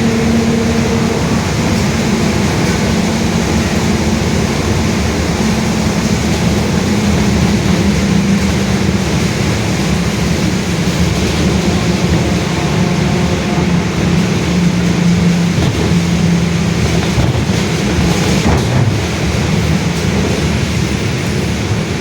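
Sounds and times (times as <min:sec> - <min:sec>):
bus differential howl: 0:00.0 - 0:22.0
road and engine noise: 0:00.0 - 0:22.0.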